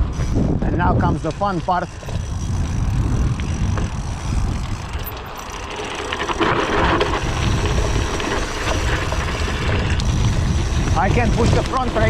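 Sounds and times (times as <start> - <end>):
bicycle tyres rumbling: 0.0 - 12.0
wind buffeting microphone: 0.0 - 12.0.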